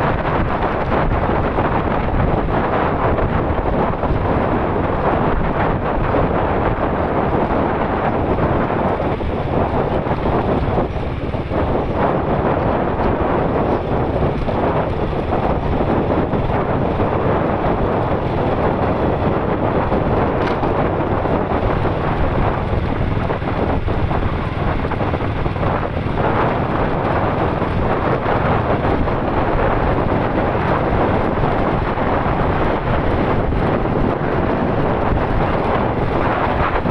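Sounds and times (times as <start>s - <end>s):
vehicle road and engine noise: 0.0s - 36.9s
wind rushing over microphone: 0.0s - 36.9s.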